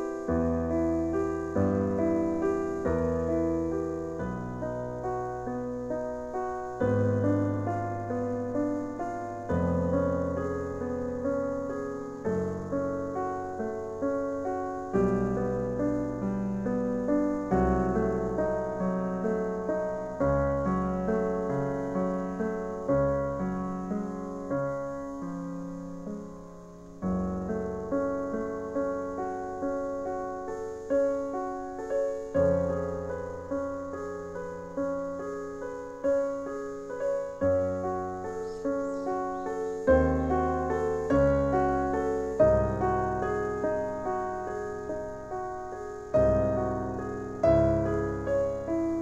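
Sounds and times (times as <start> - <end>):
solo piano music: 0.0 - 49.0.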